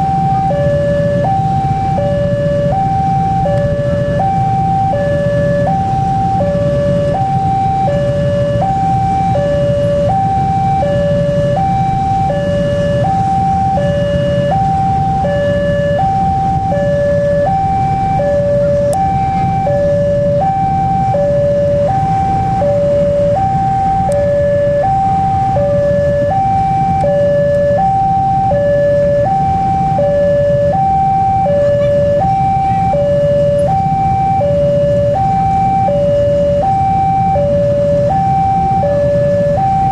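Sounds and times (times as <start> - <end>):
idling engines rumbling: 0.0 - 39.9
two-tone crossing alarm: 0.0 - 39.9.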